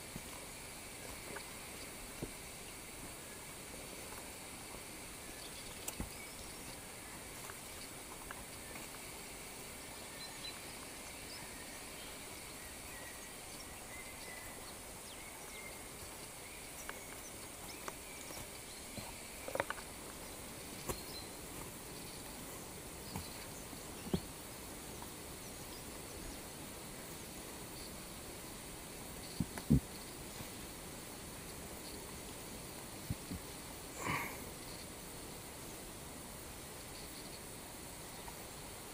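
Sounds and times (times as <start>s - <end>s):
faint insect chirps: 0.0s - 38.9s
insects droning: 0.0s - 38.9s.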